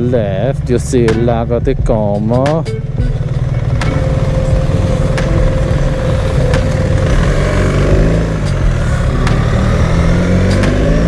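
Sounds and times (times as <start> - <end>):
motorcycle engine running: 0.0 - 11.0
road rush: 0.0 - 11.0.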